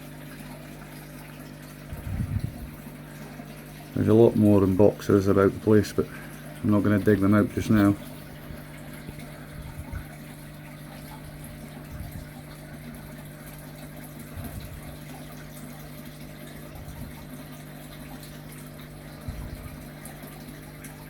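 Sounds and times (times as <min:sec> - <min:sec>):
steady low hum: 0:00.5 - 0:21.0.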